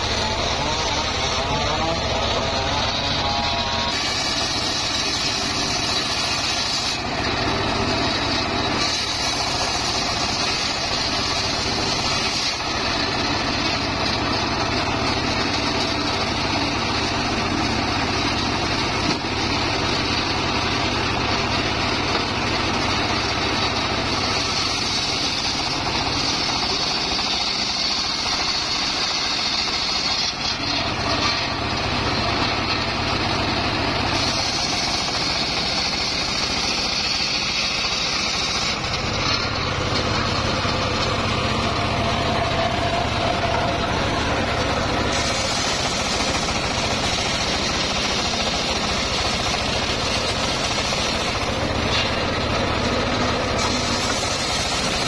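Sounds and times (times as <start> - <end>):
saw blade ripping logs: 0.0 - 55.0
sawmill engine running: 0.0 - 55.0.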